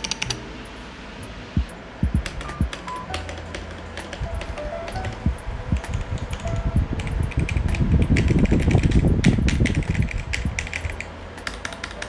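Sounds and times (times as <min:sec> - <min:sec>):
mechanical keyboard typing: 0:00.0 - 0:00.4, 0:02.0 - 0:12.0.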